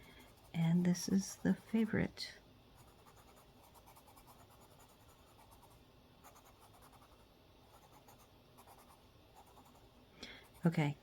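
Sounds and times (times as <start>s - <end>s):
pencil scratching on paper: 0.0s - 2.0s, 2.8s - 9.8s.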